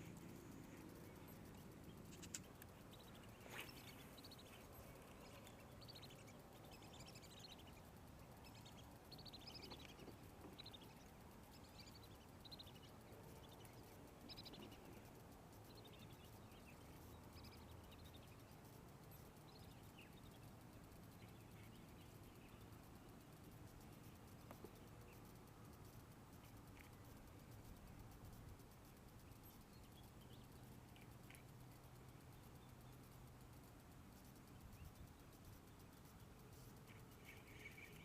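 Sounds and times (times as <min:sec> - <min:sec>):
faint bird chirps: 0:00.0 - 0:38.0.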